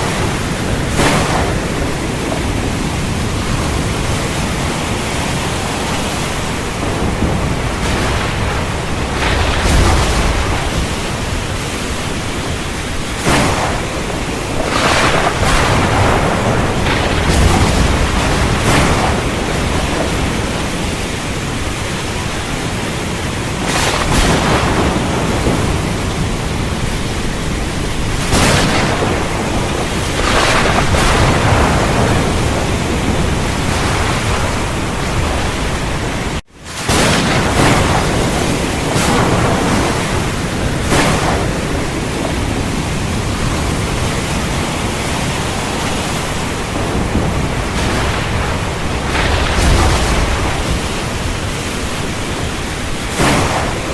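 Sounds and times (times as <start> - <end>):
heavy rain falling: 0.0 - 53.9
low rumbling thunder: 0.0 - 53.9
sharp thunder cracks: 0.0 - 53.9.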